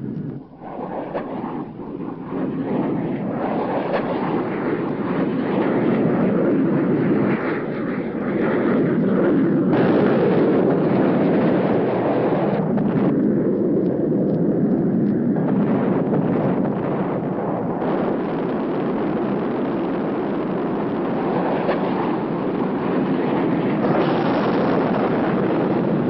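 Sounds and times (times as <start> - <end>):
jet fighter roar: 0.0 - 26.0.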